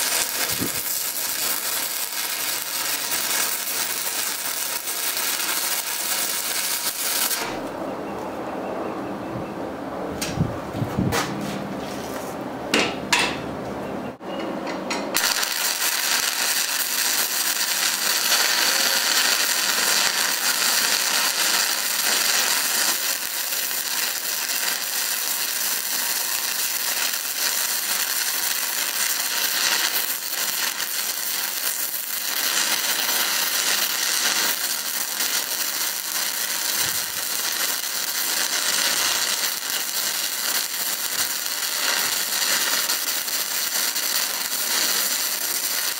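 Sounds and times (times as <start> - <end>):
welding arc crackling: 0.0 - 7.7, 15.2 - 45.9.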